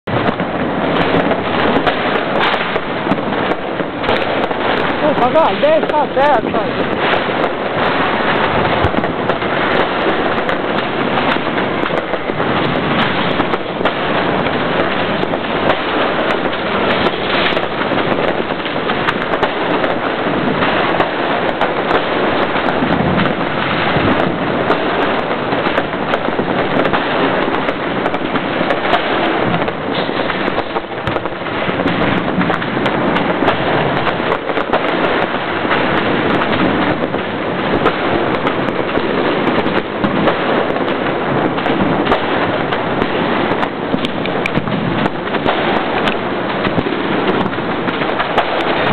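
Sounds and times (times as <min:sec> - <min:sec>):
fireworks and firecrackers crackling: 0:00.0 - 0:48.9.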